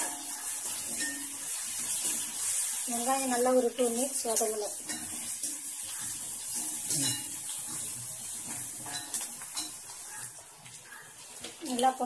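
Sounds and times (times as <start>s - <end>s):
metal spatula scraping a pan: 0.0s - 11.0s
onions sizzling in oil: 0.0s - 12.0s.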